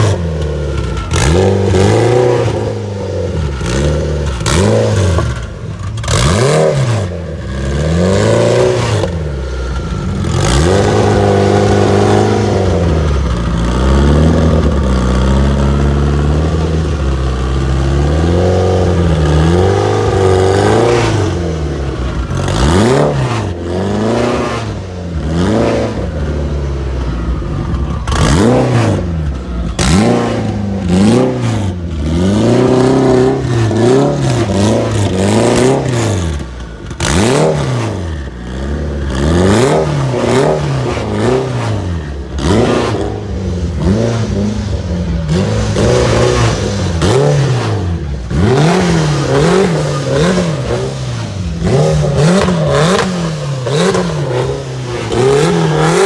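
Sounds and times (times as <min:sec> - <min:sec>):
car engine revving in blips: 0:00.0 - 0:56.0.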